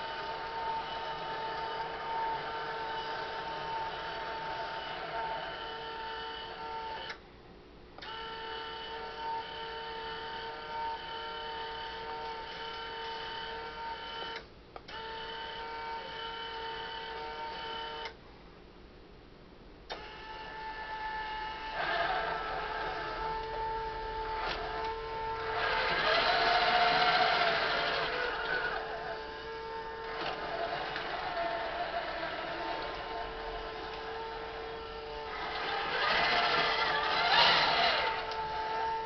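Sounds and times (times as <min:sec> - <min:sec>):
electric gear motors whining: 0:00.0 - 0:07.2, 0:08.0 - 0:18.2, 0:19.9 - 0:39.0.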